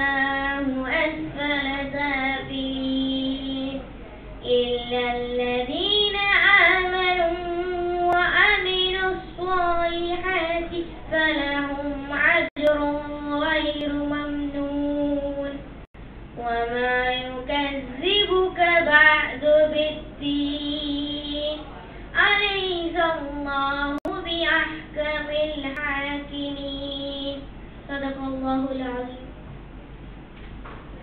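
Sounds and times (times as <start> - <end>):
boy chanting recitation: 0.0 - 15.7, 16.4 - 29.3.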